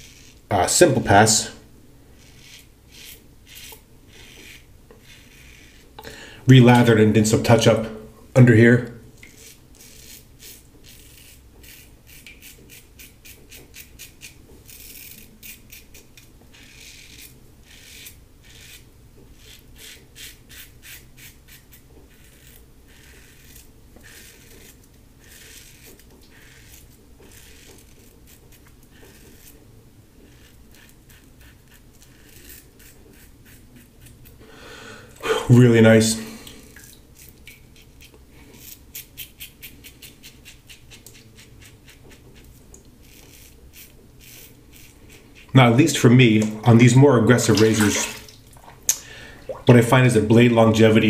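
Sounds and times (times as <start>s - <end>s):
razor scraping stubble: 0.0s - 1.4s, 2.1s - 7.7s, 9.2s - 34.4s, 36.6s - 51.0s.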